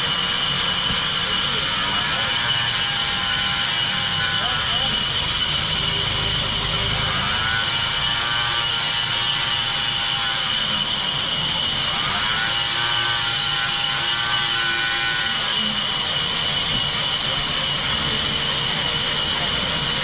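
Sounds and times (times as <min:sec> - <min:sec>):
band saw mill whirring: 0:00.0 - 0:20.0.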